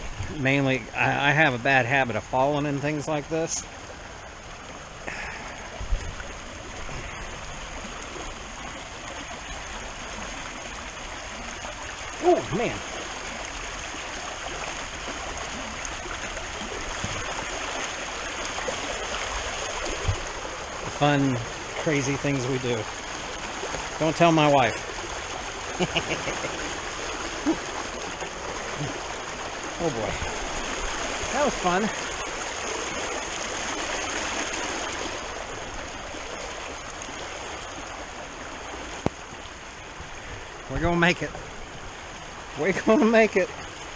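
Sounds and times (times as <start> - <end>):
creek rushing: 0.0 - 43.9.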